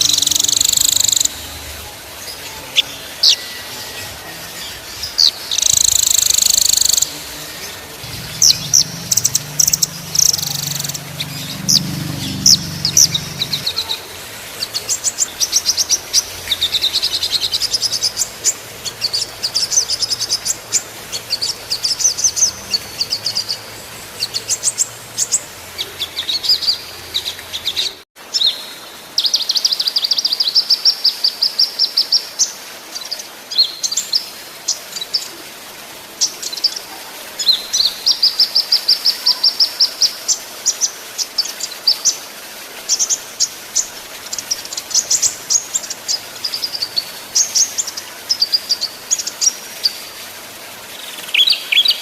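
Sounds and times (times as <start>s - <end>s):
small songbirds singing: 0.0s - 35.3s, 36.2s - 52.0s.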